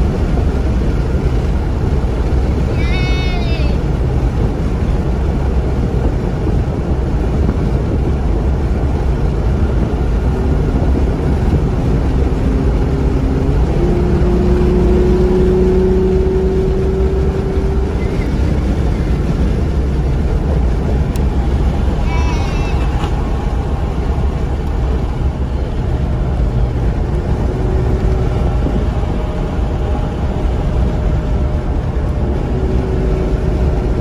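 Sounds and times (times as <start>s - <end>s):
car engine and tyre rumble: 0.0s - 34.0s
engine hum rising in pitch: 0.0s - 34.0s.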